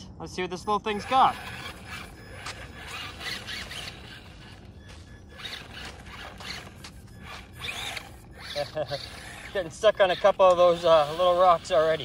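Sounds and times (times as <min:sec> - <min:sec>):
electric motor whining: 0:00.6 - 0:12.0.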